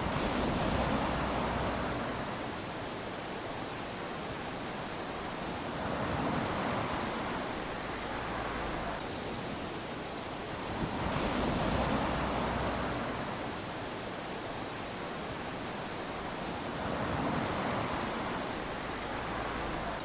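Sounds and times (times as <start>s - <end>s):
small waves lapping on sand: 0.0s - 20.0s.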